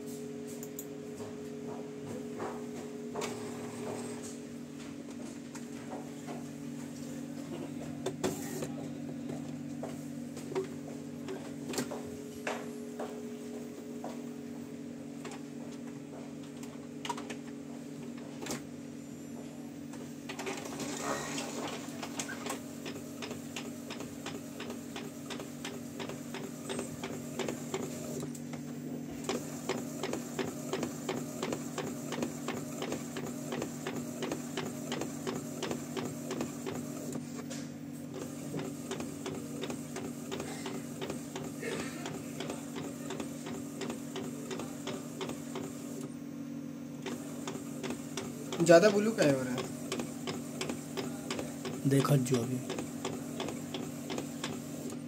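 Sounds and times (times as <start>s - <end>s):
printer motor hum: 0.0s - 55.0s.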